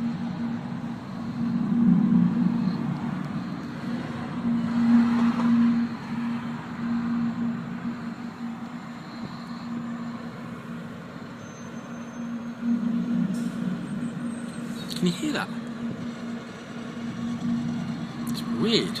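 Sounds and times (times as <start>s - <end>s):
low-pitched steady hum: 0.0s - 19.0s.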